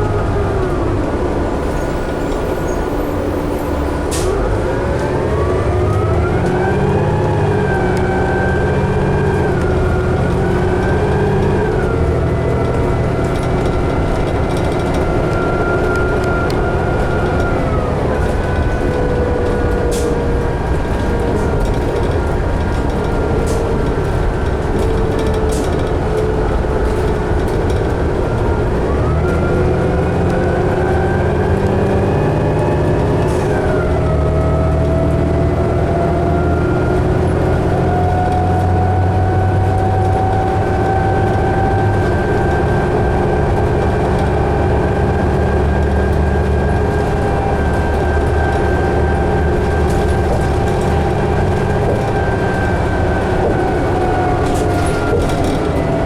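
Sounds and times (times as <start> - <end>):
bus engine low rumble: 0.0 - 56.0
drivetrain whine: 0.0 - 56.0.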